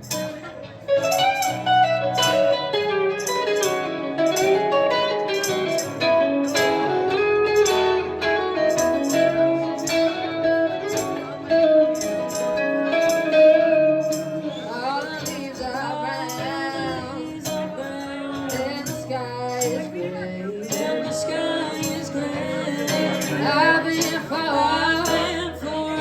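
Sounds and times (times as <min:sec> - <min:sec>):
slide guitar melody: 0:00.0 - 0:26.0
strummed guitar chords: 0:00.0 - 0:26.0.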